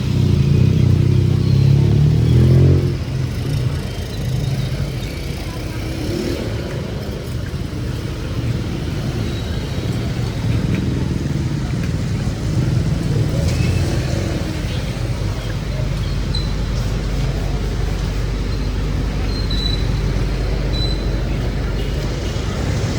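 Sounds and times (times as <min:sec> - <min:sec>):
street traffic engine hum: 0:00.0 - 0:22.9.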